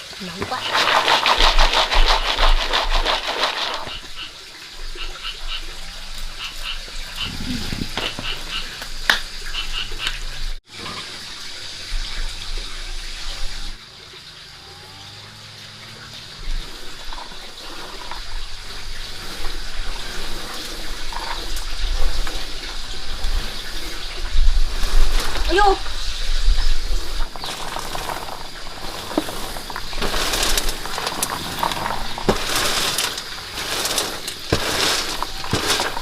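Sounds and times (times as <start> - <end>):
running water splashing: 0.0 - 36.0.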